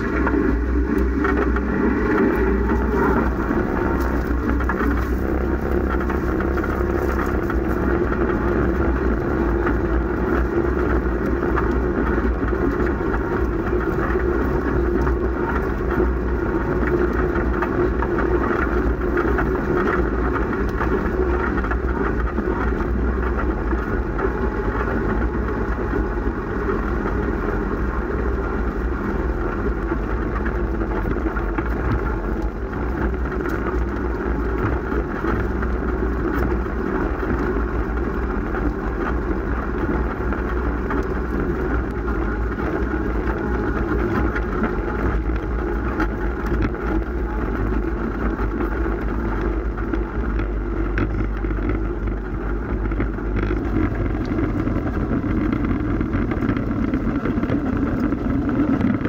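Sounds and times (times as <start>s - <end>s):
constant noisy rush: 0.0s - 59.0s
jeep engine running under load: 0.0s - 59.0s.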